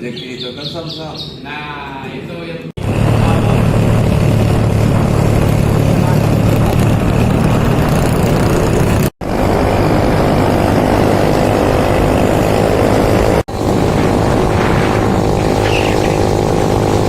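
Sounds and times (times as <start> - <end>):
dense rushing noise: 2.8 - 17.0
motor engine running: 2.8 - 17.0.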